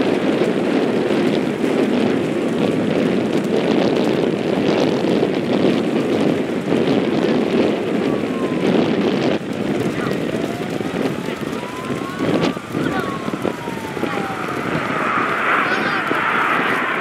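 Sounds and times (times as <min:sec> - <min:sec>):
jet roar overhead: 0:00.0 - 0:17.0
wind buffeting microphone: 0:00.0 - 0:17.0.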